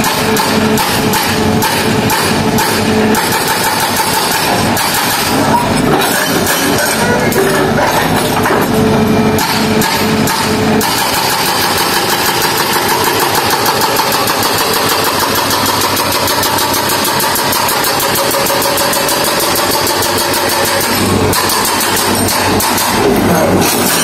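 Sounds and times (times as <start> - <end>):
engine running with pulsing rattle: 0.0 - 24.0.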